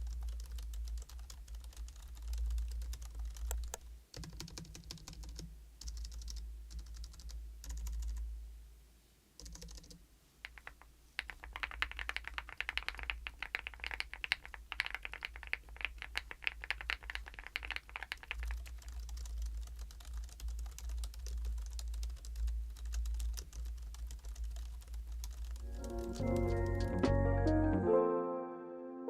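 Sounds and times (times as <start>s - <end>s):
keyboard keys tapping: 0.0s - 8.2s, 9.4s - 27.9s.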